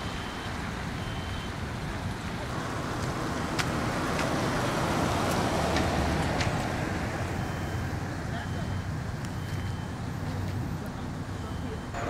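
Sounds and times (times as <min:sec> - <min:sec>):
vehicle tyre and road noise: 0:00.0 - 0:12.0.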